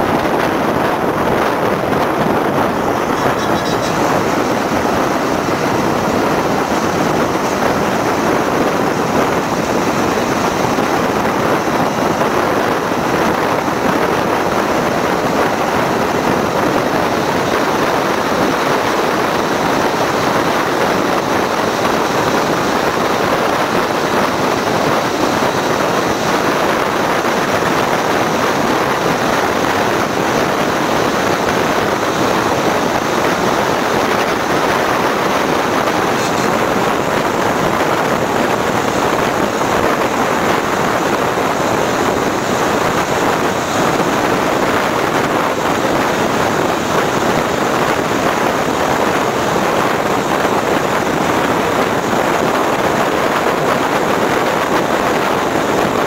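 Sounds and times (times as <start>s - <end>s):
tyre and wind noise: 0.0s - 56.0s.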